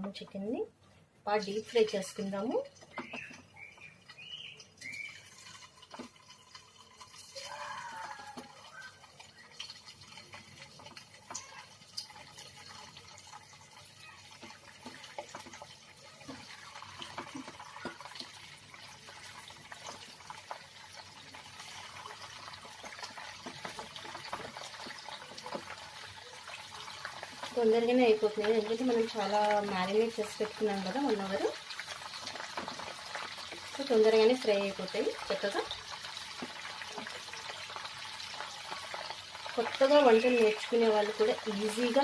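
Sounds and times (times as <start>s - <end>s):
chicken deep-frying in hot oil: 0.0s - 42.0s.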